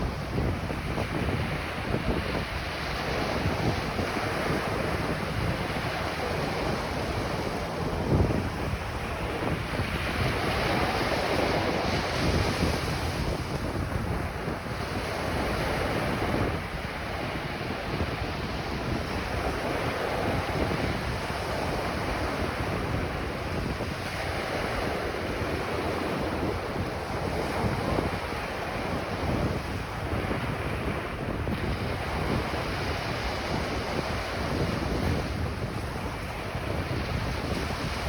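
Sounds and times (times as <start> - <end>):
ocean waves breaking on beach: 0.0 - 38.0
wind buffeting microphone: 0.0 - 38.0.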